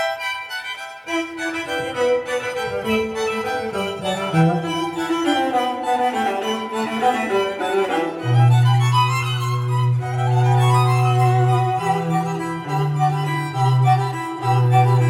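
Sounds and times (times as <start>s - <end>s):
dramatic violin music on speaker: 0.0s - 15.0s.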